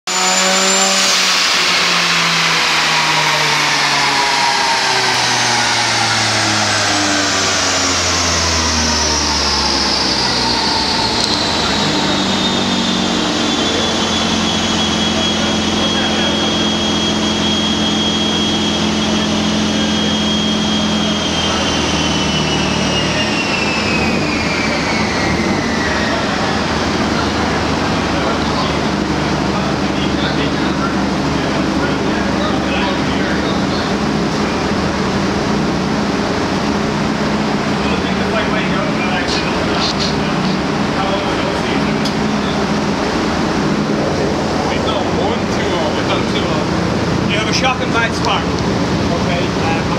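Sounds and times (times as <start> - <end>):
car engine on dynamometer: 0.0 - 49.9
high whine: 0.0 - 49.9.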